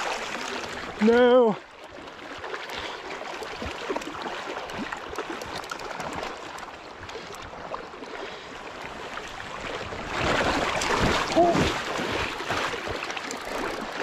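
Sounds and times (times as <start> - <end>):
river flowing and gurgling: 0.0 - 14.0
small water splashes: 0.0 - 14.0.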